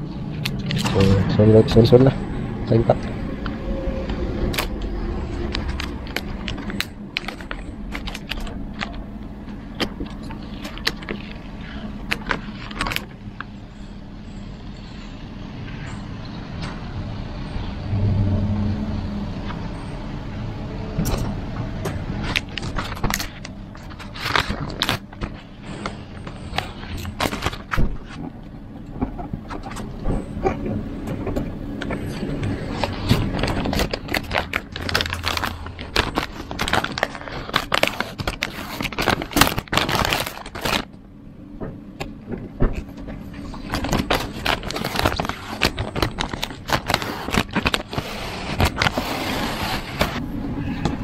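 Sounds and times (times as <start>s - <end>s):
low hum: 0.0s - 47.8s
low vehicle rumble: 0.0s - 51.0s.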